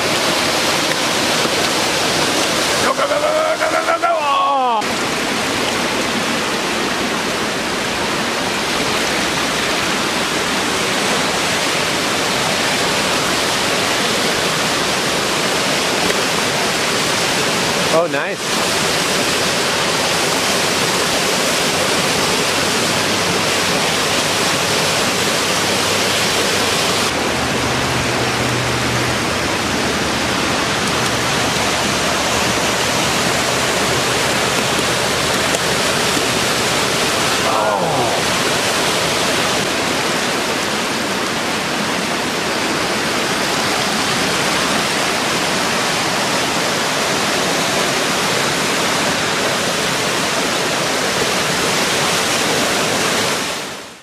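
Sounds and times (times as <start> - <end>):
floodwater rushing: 0.0 - 54.0.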